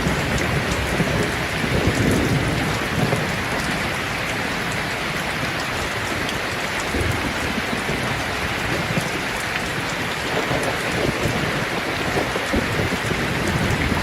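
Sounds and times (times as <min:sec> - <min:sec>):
rolling thunder rumble: 0:00.0 - 0:04.8, 0:06.8 - 0:14.0
steady rain falling: 0:00.0 - 0:14.0.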